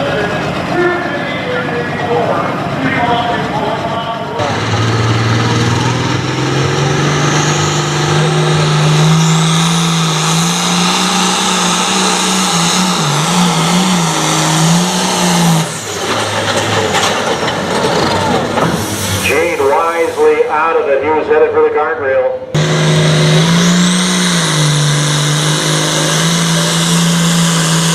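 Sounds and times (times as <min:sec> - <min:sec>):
diesel tractor engine under load: 0:00.0 - 0:21.4, 0:22.4 - 0:27.9.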